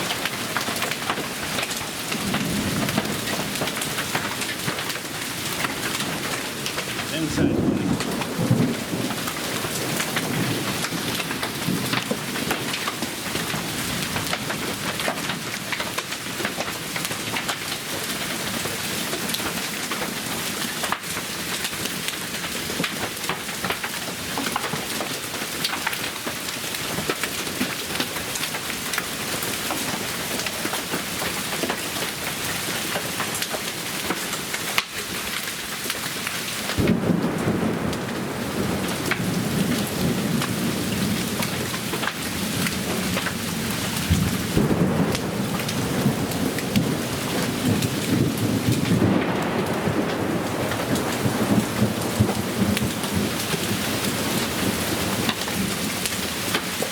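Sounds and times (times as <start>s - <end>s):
rain and hail pelting: 0.0s - 56.9s.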